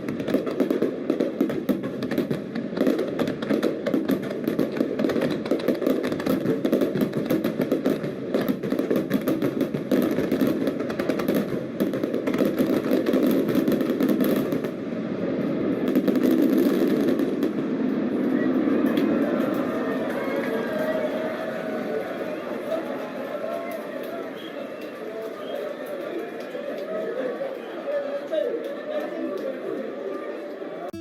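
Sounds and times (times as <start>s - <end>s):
fireworks bangs and crackles: 0.0s - 27.4s.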